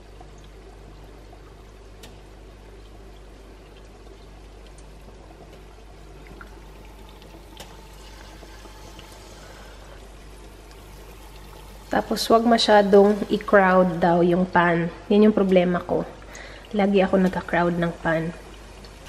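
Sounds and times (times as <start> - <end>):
chicken wings deep-frying in oil: 0.0 - 19.0
light crackles of frying: 0.0 - 19.0.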